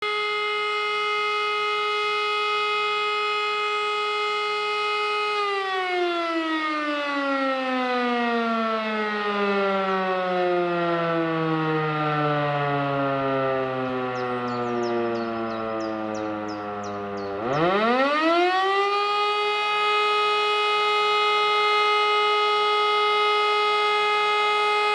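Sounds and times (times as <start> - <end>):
electromechanical siren: 0.0 - 24.9.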